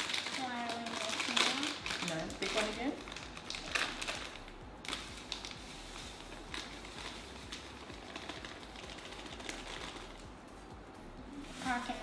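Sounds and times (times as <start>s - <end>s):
plastic bag rustling and crinkling: 0.0s - 10.3s, 11.3s - 12.0s.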